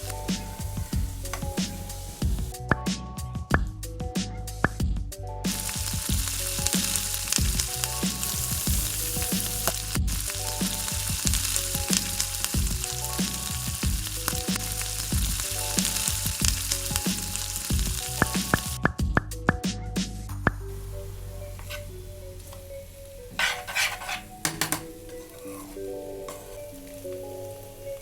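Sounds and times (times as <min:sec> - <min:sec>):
food sizzling in a pan: 0:00.0 - 0:02.5, 0:05.5 - 0:18.8, 0:20.7 - 0:28.0
light background music: 0:00.0 - 0:28.0.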